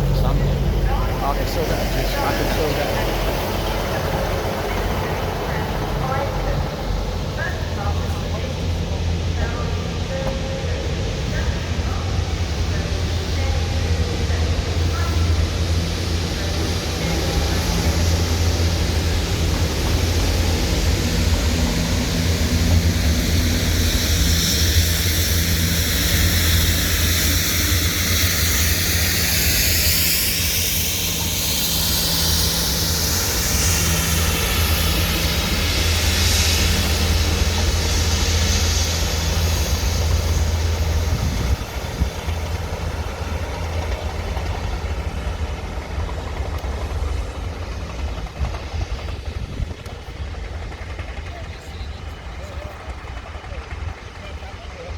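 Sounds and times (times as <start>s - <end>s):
train engine hum and hiss: 0.0s - 54.9s.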